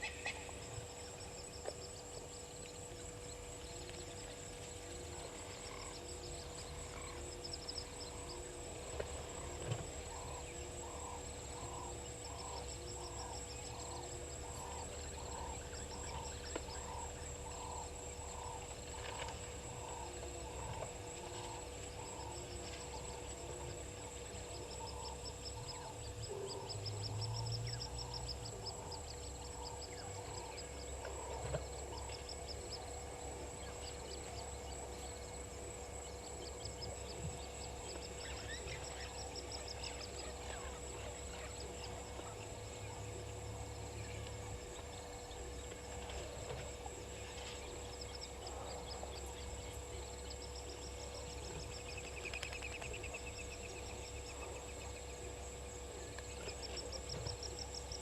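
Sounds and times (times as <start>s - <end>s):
birds calling and trilling: 0.0s - 58.0s
insect drone: 0.0s - 58.0s.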